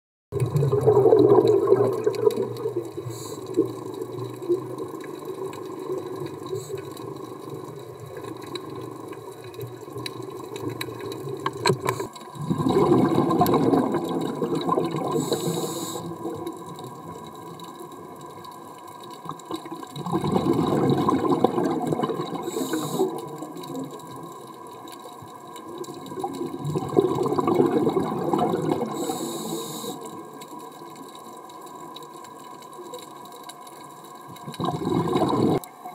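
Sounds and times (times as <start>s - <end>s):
exhaled bubbles rushing: 0.3s - 35.9s
low underwater noise: 0.3s - 35.9s.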